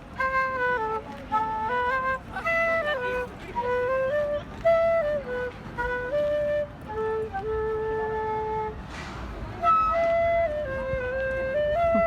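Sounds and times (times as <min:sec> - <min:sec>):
flute playing slow melody: 0:00.0 - 0:12.0.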